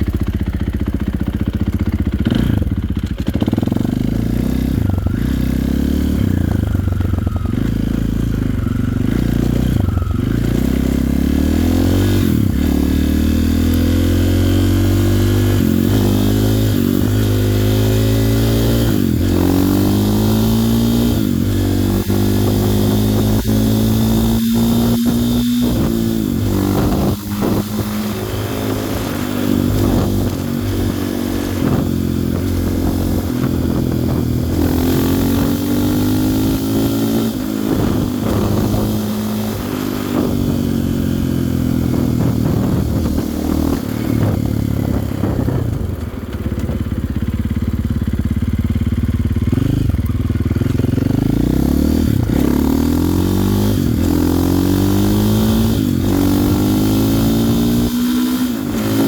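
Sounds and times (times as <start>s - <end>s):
motorcycle engine accelerating hard: 0.0s - 59.0s.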